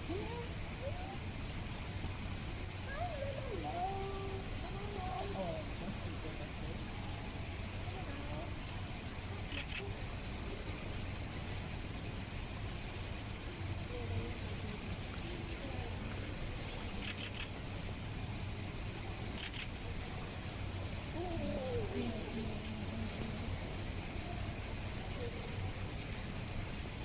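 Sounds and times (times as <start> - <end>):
faint background voices: 0.0 - 27.0.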